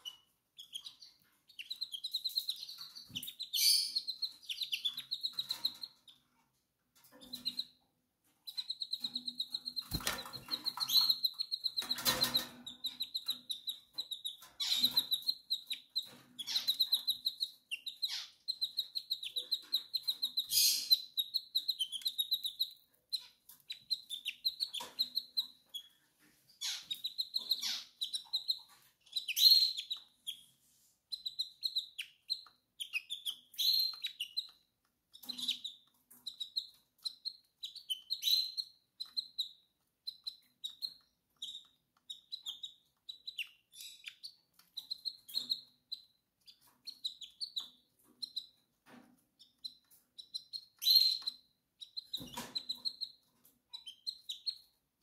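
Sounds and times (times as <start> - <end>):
canary chirping: 0.0 - 55.0.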